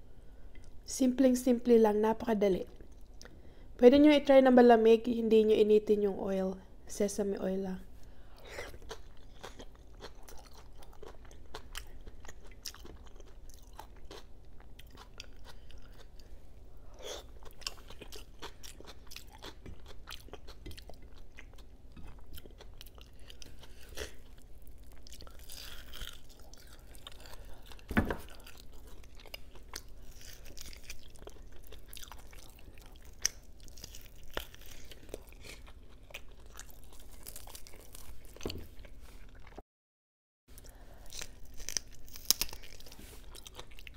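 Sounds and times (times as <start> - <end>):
close chewing and mouth sounds: 2.6 - 3.4, 7.9 - 39.6, 40.5 - 43.9.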